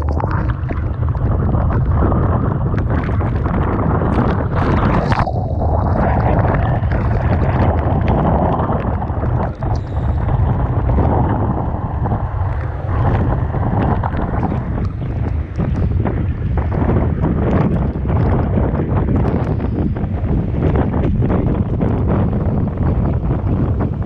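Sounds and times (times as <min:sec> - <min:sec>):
rough crashing sea: 0:00.0 - 0:24.0
wind buffeting the microphone: 0:00.0 - 0:24.0.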